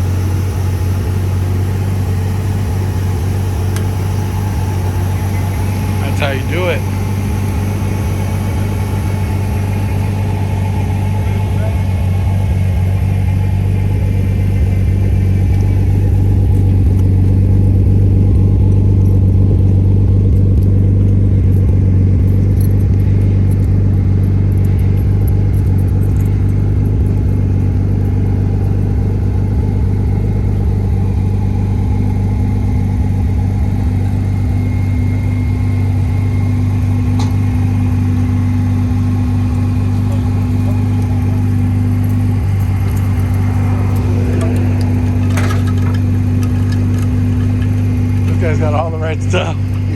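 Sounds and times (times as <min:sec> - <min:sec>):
vehicle engine idling: 0:00.0 - 0:49.9.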